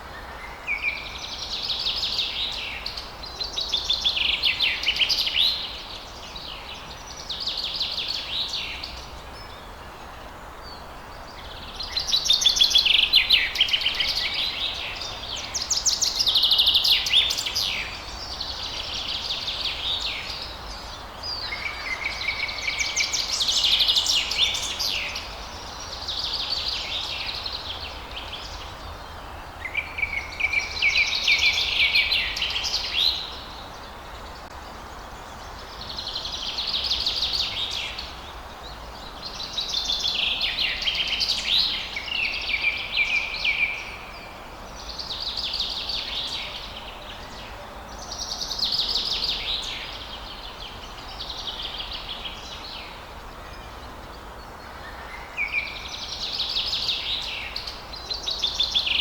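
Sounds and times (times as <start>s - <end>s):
faint outdoor background hiss: 0.0s - 59.0s
songbird singing: 0.0s - 59.0s.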